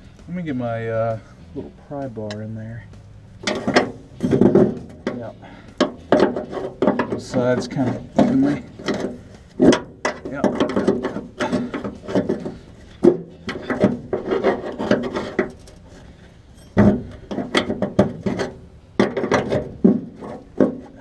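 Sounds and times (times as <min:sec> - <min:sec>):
pry bar scraping metal: 0:03.4 - 0:21.0.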